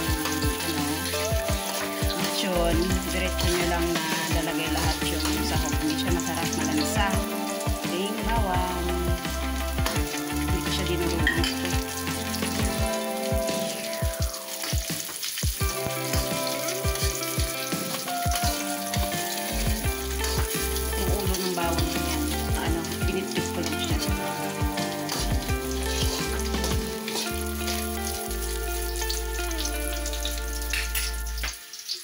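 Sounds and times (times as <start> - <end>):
background music with bass: 0.0 - 31.6
food sizzling in a wok: 0.0 - 32.0.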